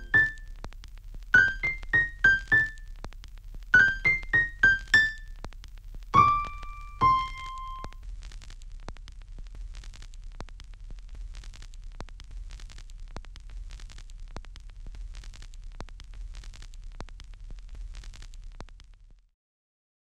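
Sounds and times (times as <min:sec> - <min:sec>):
record clicks and pops: 0:00.0 - 0:19.0
record surface hiss and hum: 0:00.0 - 0:19.3.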